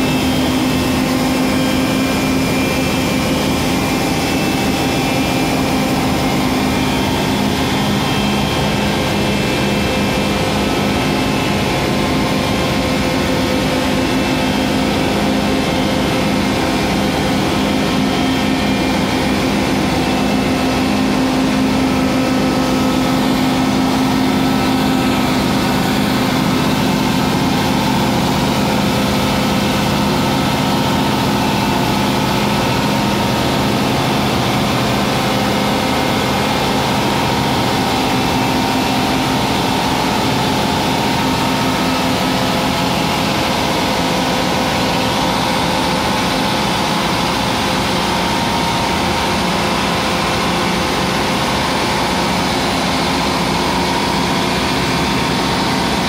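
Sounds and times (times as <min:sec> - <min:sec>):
engine drone: 0:00.0 - 0:56.0
steady hum: 0:00.0 - 0:56.0.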